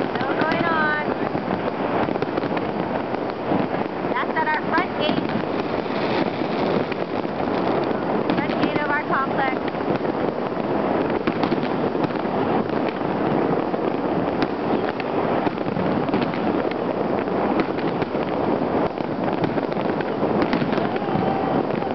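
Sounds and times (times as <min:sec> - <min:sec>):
fireworks crackling: 0:00.0 - 0:21.9
sharp firecracker pops: 0:00.0 - 0:21.9.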